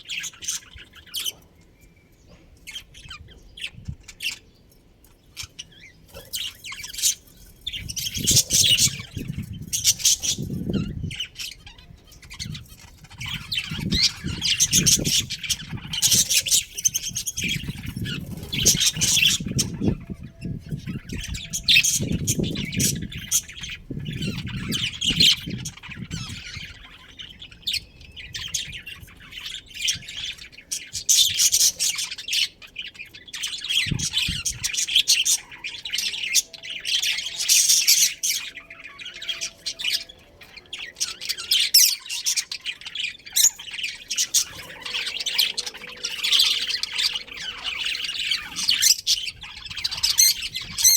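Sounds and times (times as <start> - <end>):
budgerigars chirping and chattering: 0.0 - 50.9.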